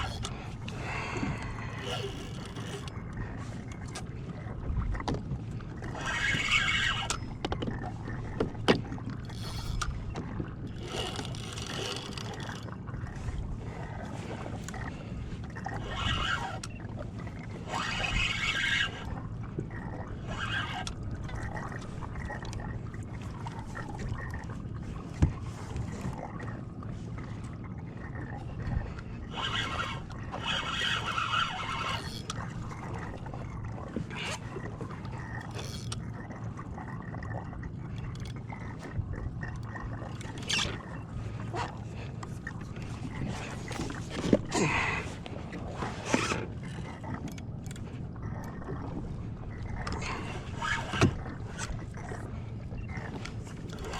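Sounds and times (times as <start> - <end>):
steady low hum: 0.0 - 53.9
water splashing against kayak hull: 0.0 - 53.9.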